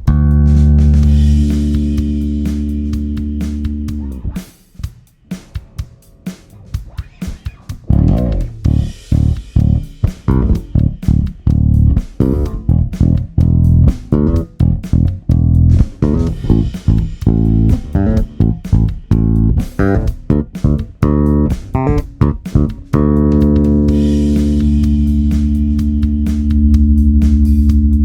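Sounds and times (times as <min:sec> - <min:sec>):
electric bass clipped notes: 0:00.0 - 0:04.5, 0:07.8 - 0:28.0.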